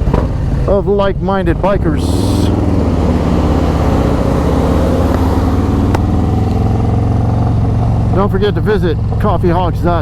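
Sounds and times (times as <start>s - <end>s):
motorcycle exhaust note: 1.4s - 10.0s.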